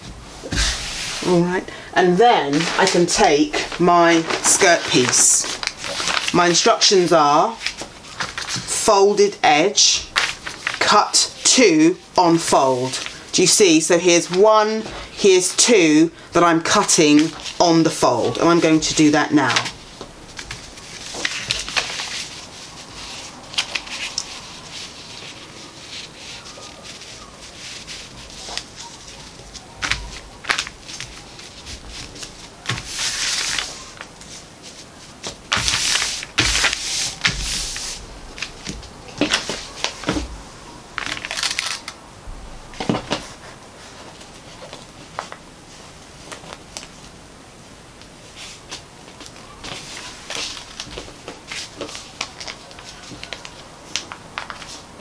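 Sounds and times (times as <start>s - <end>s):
paper rustling and crackling: 2.4s - 8.9s, 9.6s - 11.4s, 12.0s - 47.2s, 48.0s - 55.0s.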